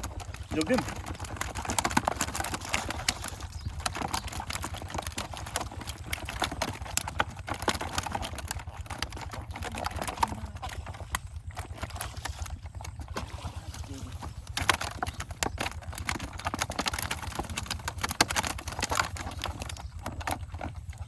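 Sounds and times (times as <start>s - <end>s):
fish flapping and splashing: 0.0s - 21.0s.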